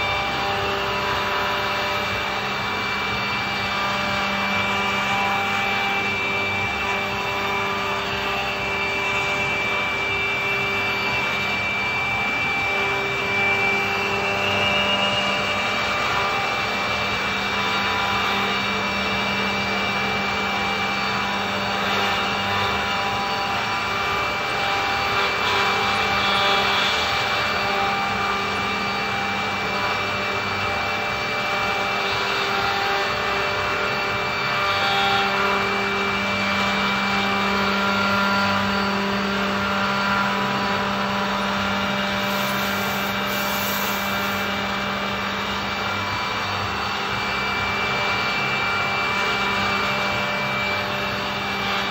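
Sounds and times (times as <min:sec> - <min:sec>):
milling machine whining: 0:00.0 - 0:51.9.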